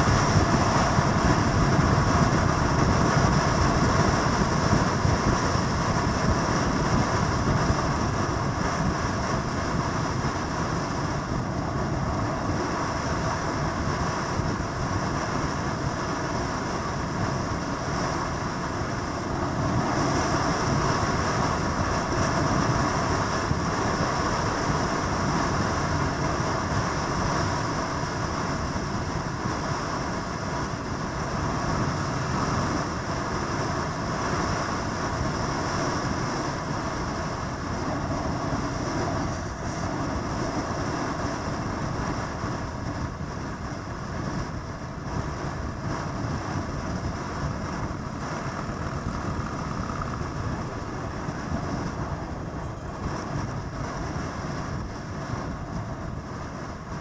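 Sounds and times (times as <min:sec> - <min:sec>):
motorcycle engines rumbling: 0:00.0 - 0:57.0.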